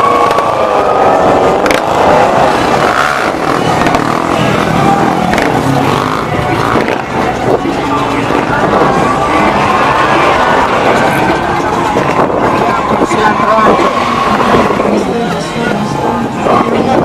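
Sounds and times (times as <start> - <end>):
engines revving: 0.0 - 17.0
traffic noise: 0.0 - 17.0.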